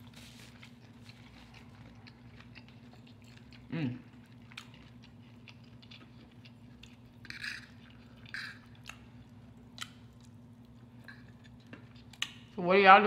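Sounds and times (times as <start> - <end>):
soft chewing: 0.0 - 12.6
low steady hum: 0.0 - 13.0.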